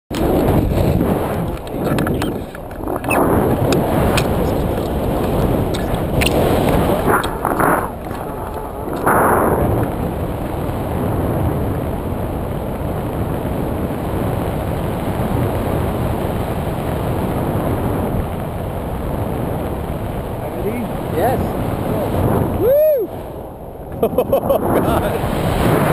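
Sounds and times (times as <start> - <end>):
wind buffeting microphone: 0.1 - 25.9.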